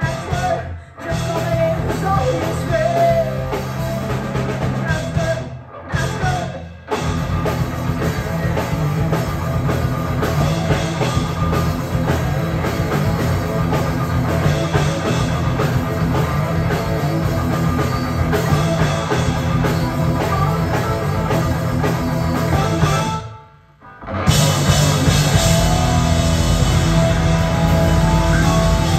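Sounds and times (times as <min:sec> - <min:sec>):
rock band playing hard rock: 0:00.0 - 0:28.9.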